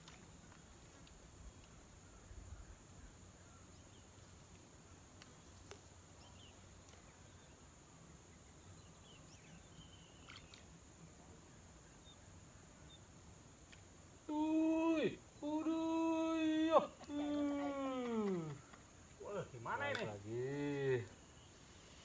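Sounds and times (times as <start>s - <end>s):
faint chirps: 1.5s - 22.0s.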